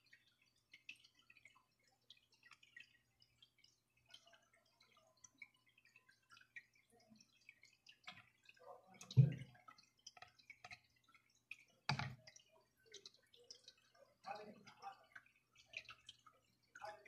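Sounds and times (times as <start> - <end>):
wet clicks and handling noise: 0.0 - 16.8.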